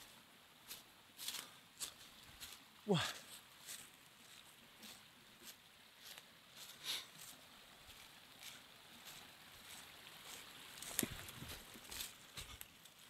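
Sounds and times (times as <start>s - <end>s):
footsteps crunching dry leaves: 0.0s - 12.7s
brook trickling: 0.0s - 13.0s.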